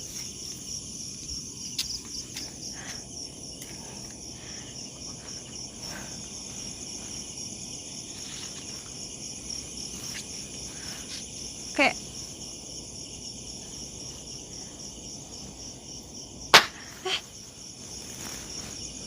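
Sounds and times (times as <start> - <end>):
crickets and insects chirring: 0.0 - 19.0.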